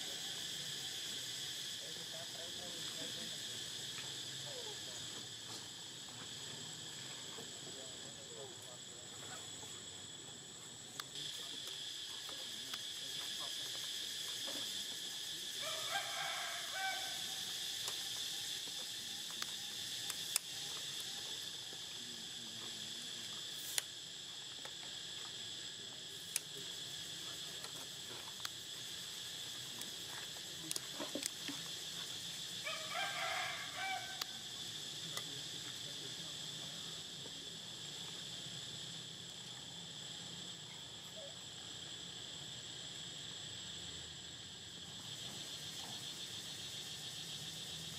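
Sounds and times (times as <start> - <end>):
insect chorus: 0.0 - 47.9.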